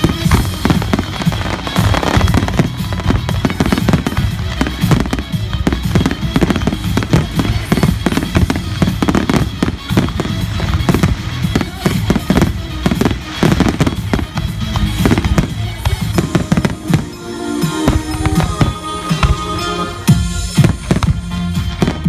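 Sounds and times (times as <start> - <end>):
fireworks bangs and cracks: 0.0 - 22.0
loud music: 0.0 - 22.0.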